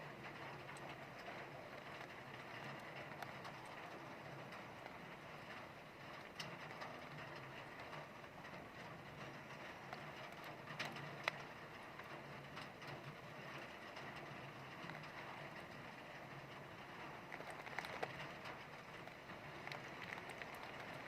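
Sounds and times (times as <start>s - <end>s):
heavy rain falling: 0.0s - 21.0s
wind: 0.0s - 21.0s.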